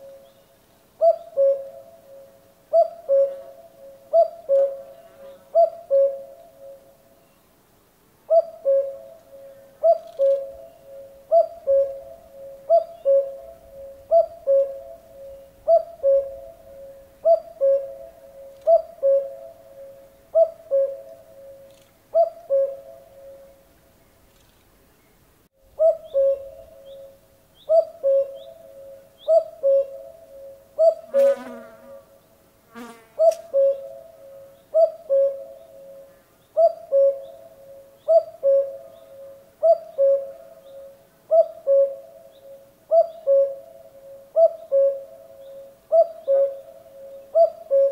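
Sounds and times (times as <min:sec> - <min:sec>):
cuckoo calling: 0:00.0 - 0:00.4, 0:01.0 - 0:06.9, 0:08.3 - 0:23.6, 0:25.7 - 0:31.1, 0:33.2 - 0:47.9.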